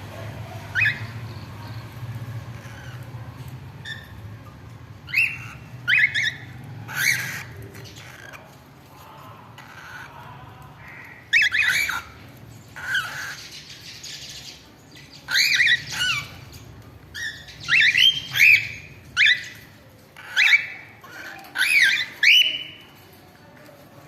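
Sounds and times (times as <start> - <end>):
cockatiels calling: 0.0 - 22.9.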